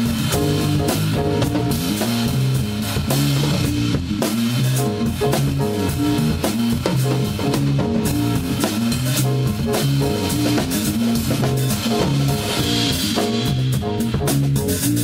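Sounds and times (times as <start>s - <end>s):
drum kit played hard: 0.0s - 15.0s
electric bass riff: 0.0s - 15.0s.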